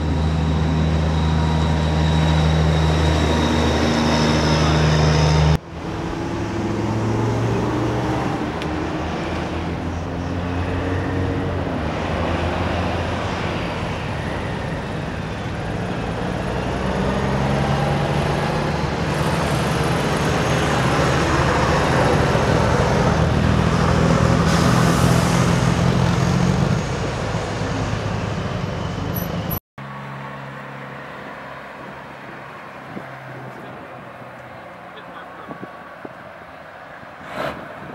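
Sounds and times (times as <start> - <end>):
diesel truck engines droning: 0.0 - 37.9
traffic noise: 0.0 - 37.9.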